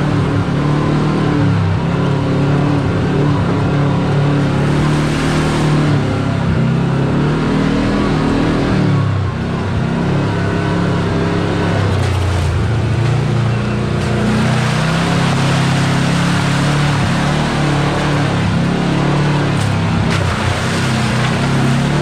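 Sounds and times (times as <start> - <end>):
utility vehicle engine revving: 0.0 - 22.0.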